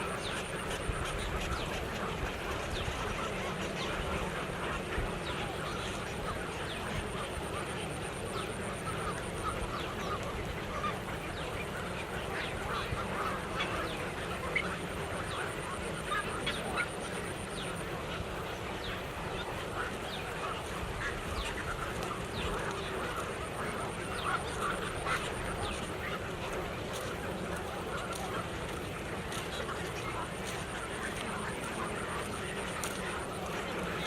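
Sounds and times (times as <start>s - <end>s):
waterbirds honking and squawking: 0.0s - 34.0s.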